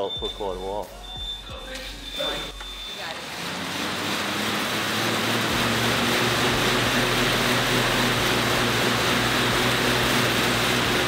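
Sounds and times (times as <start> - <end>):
exercise bike fan whooshing: 1.9 - 11.0.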